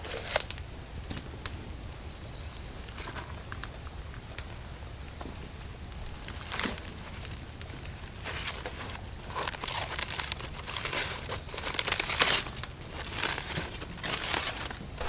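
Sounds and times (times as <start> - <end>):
crinkling and rustling: 0.0 - 1.6, 2.8 - 4.5, 5.2 - 15.0.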